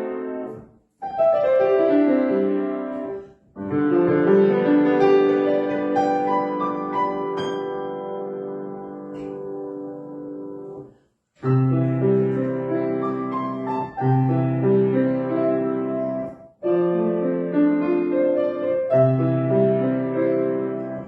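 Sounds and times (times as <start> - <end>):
solo piano slow piece: 0.0 - 21.0.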